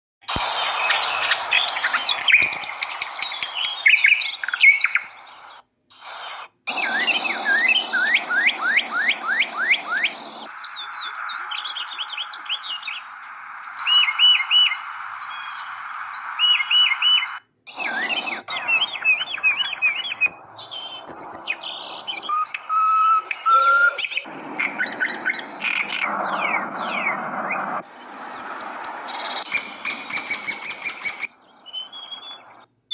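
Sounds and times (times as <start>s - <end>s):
songbirds singing and chirping: 0.3s - 32.7s.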